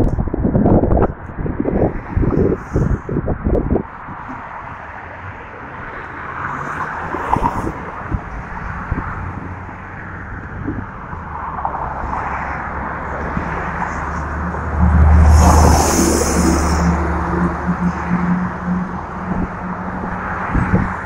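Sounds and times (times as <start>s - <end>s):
low vehicle engine hum: 0.0s - 21.0s
traffic tyre noise: 0.0s - 21.0s
wind on microphone: 0.0s - 21.0s.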